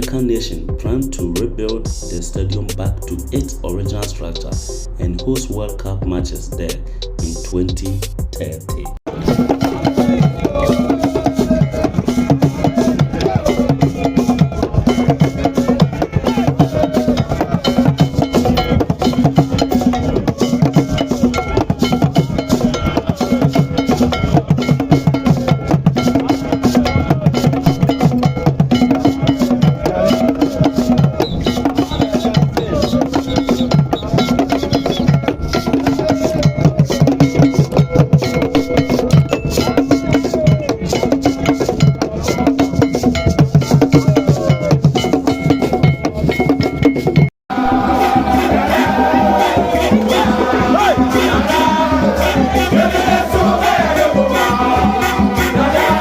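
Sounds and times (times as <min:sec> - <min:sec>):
wood-block percussion beat: 0:00.0 - 0:56.0.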